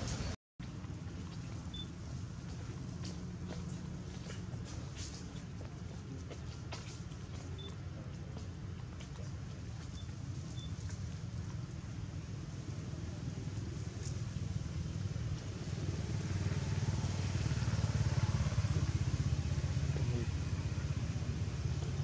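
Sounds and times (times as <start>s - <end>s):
distant motorbike engine rumble: 0.0s - 22.0s.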